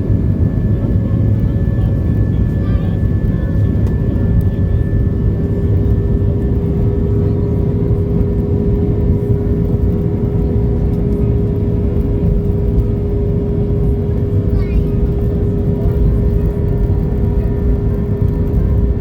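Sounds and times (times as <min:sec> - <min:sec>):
airliner cabin engine drone: 0:00.0 - 0:19.0.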